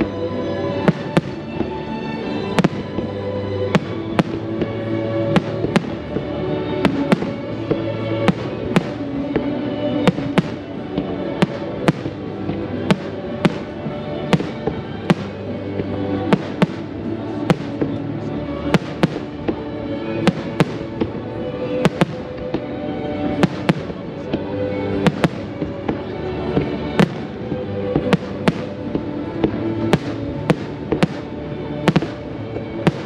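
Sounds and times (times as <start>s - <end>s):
music playing: 0.0s - 33.0s.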